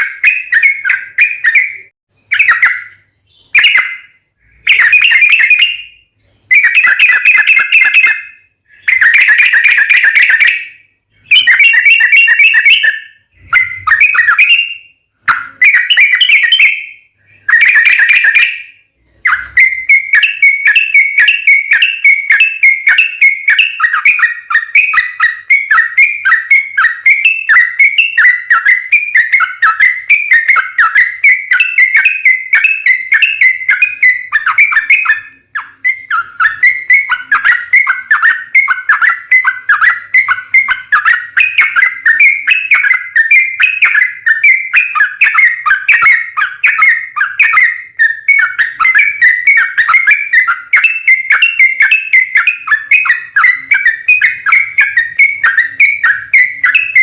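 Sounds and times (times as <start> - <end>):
bird singing chattering whistles: 0.0 - 57.0.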